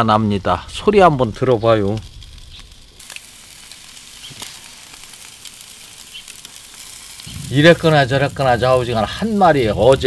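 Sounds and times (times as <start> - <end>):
fish sizzling on a grill: 0.1 - 10.0.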